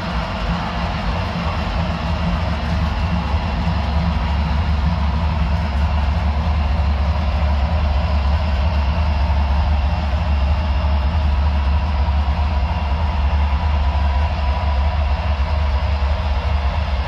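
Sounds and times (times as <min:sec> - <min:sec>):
model train motors rumbling: 0:00.0 - 0:17.0.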